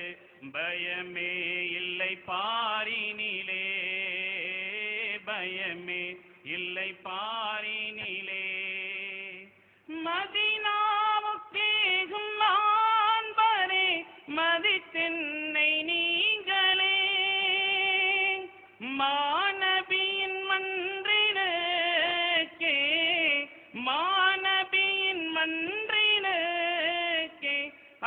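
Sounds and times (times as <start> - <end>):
man singing unaccompanied hymn: 0.0 - 28.0.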